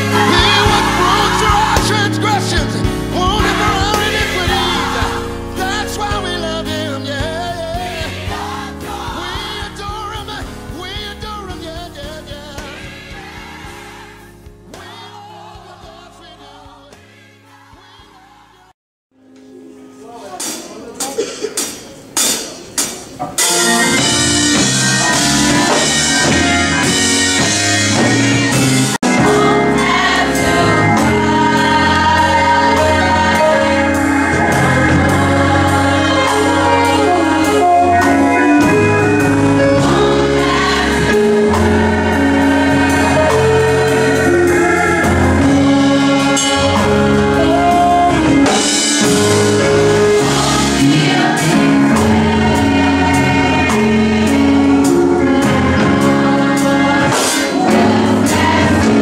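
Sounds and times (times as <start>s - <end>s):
gospel choir singing: 0.0s - 18.8s, 23.4s - 59.0s
backing band playing: 0.0s - 59.0s.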